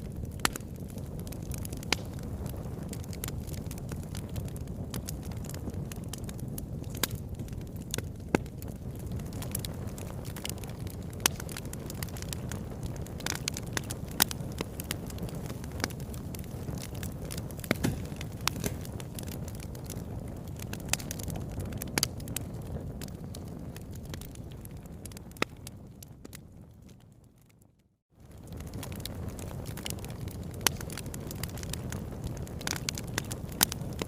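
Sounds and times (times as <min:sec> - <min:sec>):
low rush of flames: 0:00.0 - 0:27.5, 0:28.2 - 0:34.0
wood fire crackling and popping: 0:00.0 - 0:34.0.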